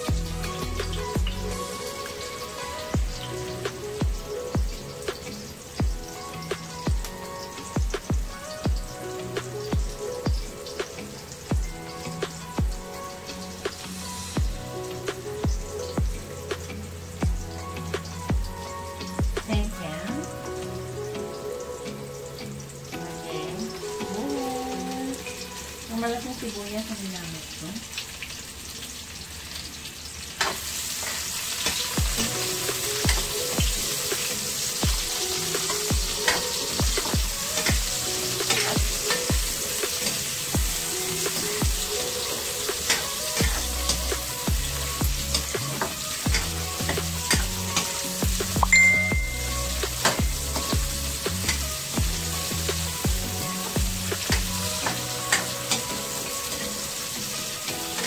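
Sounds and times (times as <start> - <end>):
onions sizzling in a frying pan: 0.0 - 58.0.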